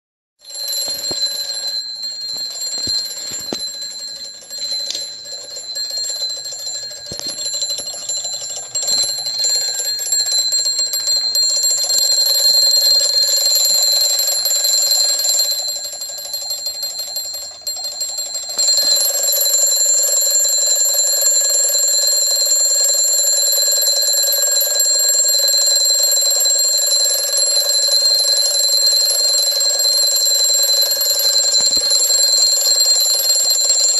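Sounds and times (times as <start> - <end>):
alarm clock ringing: 0.4 - 33.9.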